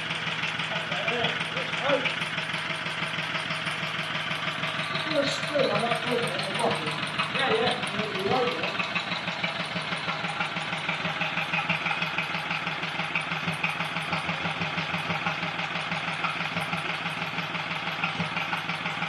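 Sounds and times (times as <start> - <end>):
stationary engine running: 0.0 - 19.0.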